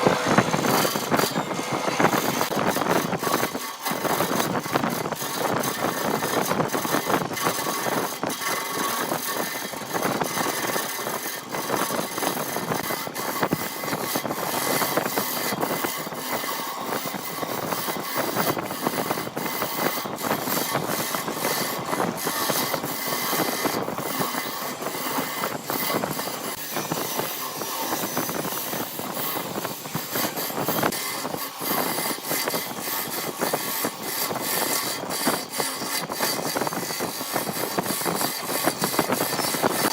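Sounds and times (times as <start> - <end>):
faint steady whine: 0.0 - 39.9
wood lathe tool scraping: 0.0 - 39.9.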